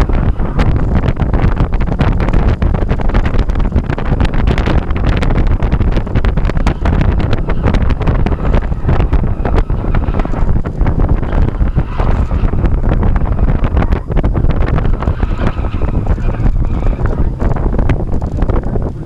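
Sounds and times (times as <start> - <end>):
car engine running: 0.0 - 19.0
wind buffeting microphone: 0.0 - 19.0.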